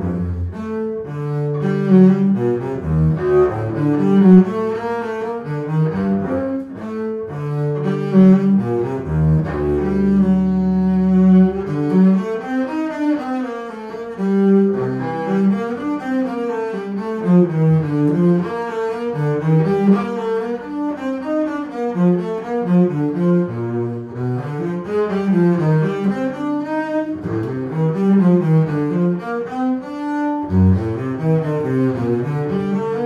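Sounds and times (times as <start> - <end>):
bowed double bass: 0.0 - 33.0.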